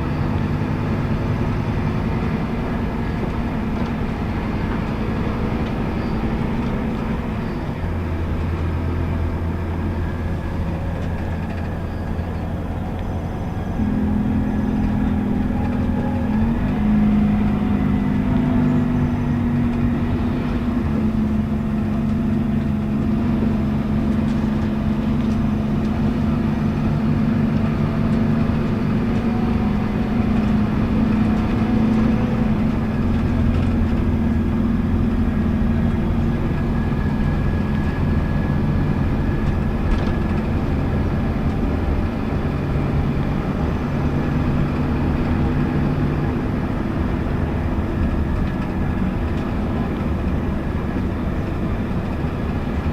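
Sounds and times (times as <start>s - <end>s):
bus engine droning: 0.0s - 52.9s
road rumble: 0.0s - 52.9s.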